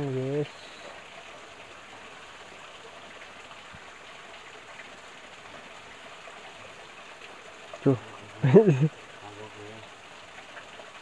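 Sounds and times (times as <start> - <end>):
stream trickling into a pool: 0.0 - 11.0.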